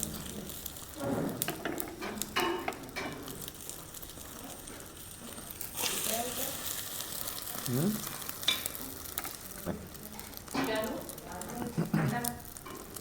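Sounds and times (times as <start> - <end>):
eggs sizzling in hot oil: 0.0 - 13.0.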